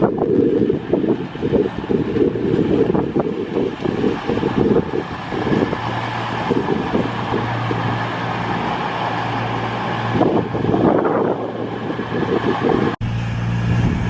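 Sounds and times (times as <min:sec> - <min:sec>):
diesel train engine humming: 0:00.0 - 0:14.0
wind buffeting microphone: 0:00.0 - 0:14.0.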